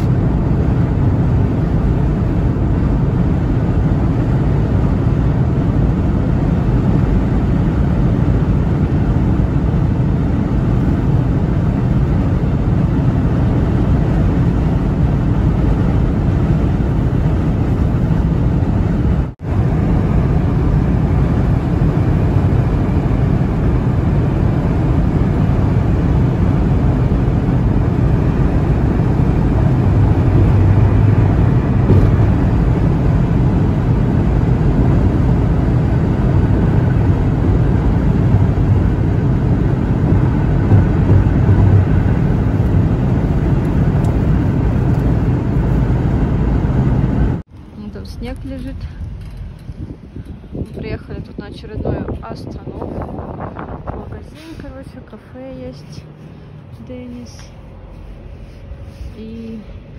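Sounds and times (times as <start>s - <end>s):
car engine low drone: 0.0s - 59.9s.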